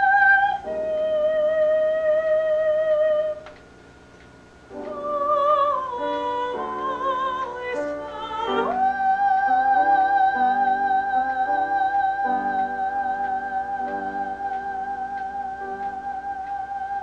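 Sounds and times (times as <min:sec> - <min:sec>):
woman singing into a microphone: 0:00.0 - 0:03.4, 0:04.7 - 0:17.0
quiet musical accompaniment: 0:00.0 - 0:17.0.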